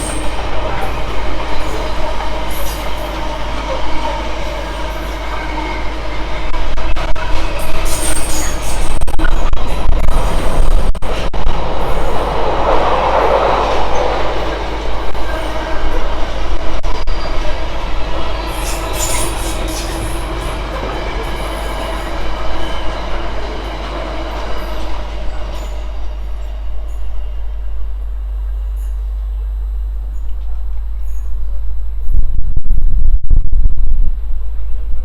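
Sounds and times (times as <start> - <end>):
train running past: 0.0 - 29.7.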